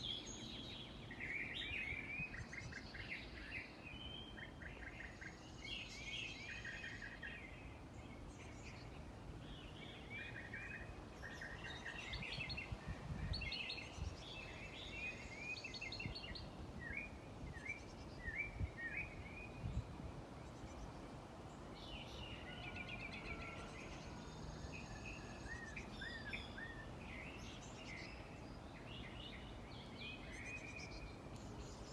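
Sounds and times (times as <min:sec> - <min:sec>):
songbirds chirping and singing: 0:00.0 - 0:31.9.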